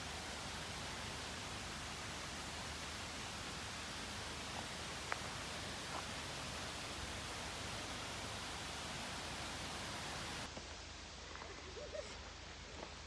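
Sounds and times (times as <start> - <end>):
steady rushing noise: 0.0 - 10.5.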